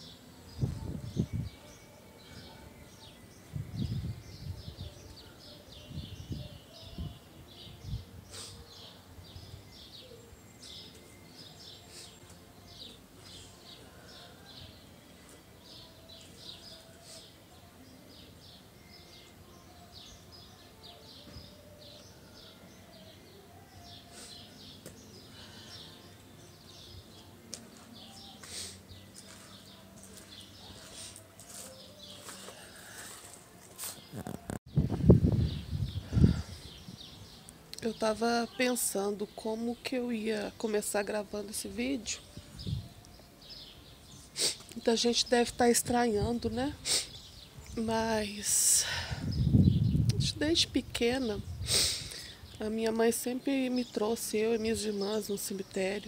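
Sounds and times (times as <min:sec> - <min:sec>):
faint outdoor background: 0:00.0 - 0:56.0
small birds chirping: 0:00.0 - 0:56.0.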